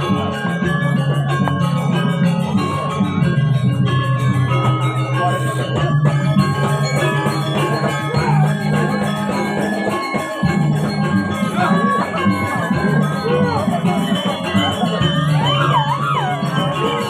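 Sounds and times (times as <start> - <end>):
metallophones ringing: 0.0 - 17.0.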